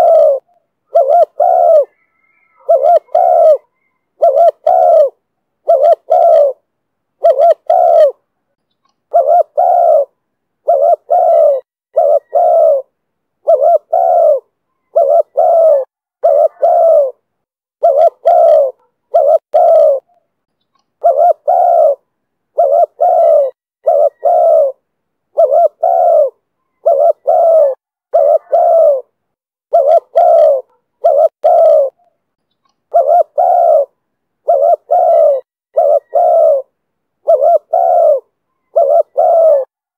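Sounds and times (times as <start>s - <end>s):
dove cooing: 0.0s - 8.3s, 9.1s - 20.3s, 21.0s - 32.2s, 32.9s - 39.8s.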